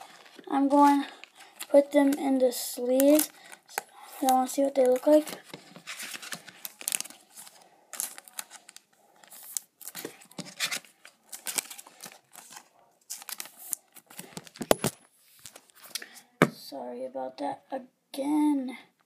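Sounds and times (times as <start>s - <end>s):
plastic sleeves crinkling: 0.0s - 16.2s.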